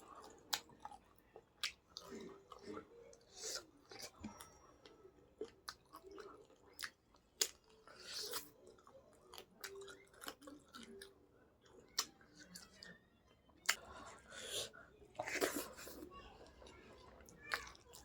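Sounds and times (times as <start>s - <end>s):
person chewing with mouth smacks: 0.0s - 4.5s, 5.4s - 12.9s, 13.6s - 18.0s.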